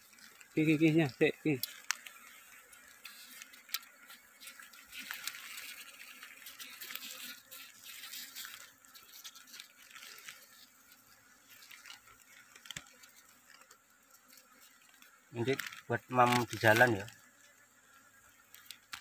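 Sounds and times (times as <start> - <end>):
plastic bag crinkling: 0.0 - 17.2
blade cutting honeycomb: 0.0 - 19.0.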